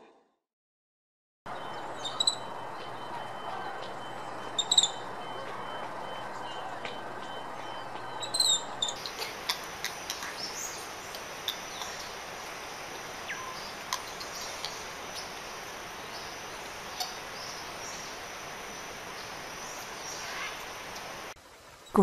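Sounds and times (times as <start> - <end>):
steady outdoor hiss: 1.5 - 22.0.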